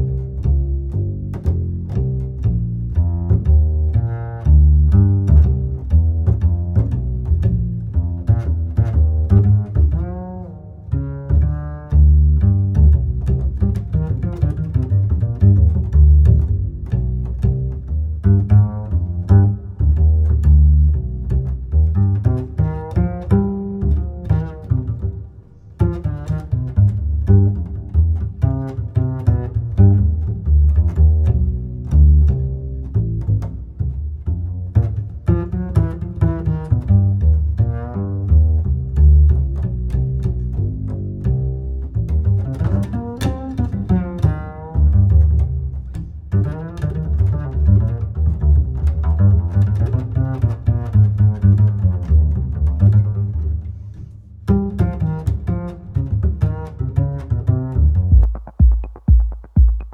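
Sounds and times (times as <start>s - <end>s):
cello and double bass playing: 0.0s - 59.6s.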